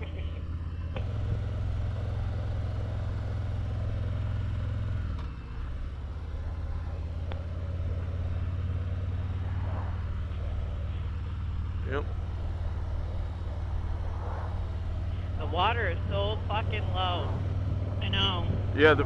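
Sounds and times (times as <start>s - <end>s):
motorcycle engine drone: 0.0s - 19.0s
wind and road noise: 0.0s - 19.0s.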